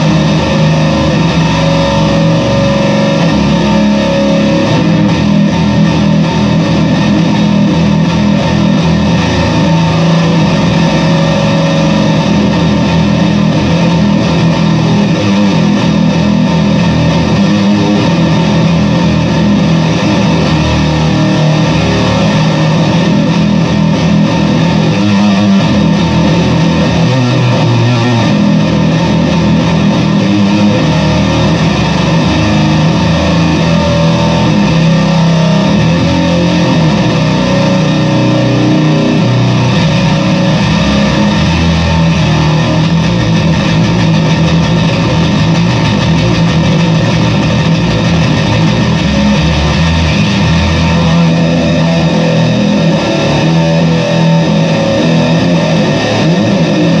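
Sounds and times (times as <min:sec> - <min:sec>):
heavily distorted bass guitar: 0:00.0 - 0:57.0.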